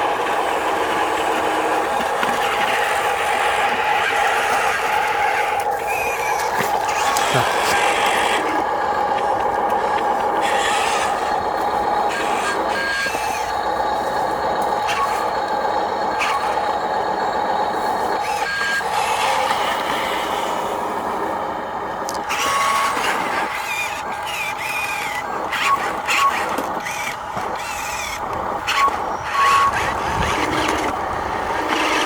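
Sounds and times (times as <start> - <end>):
electric motors whining: 0.0 - 32.0.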